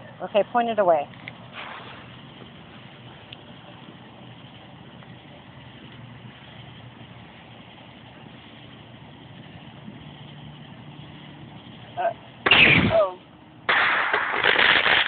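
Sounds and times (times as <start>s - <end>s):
motor hum and hiss: 0.6s - 13.6s.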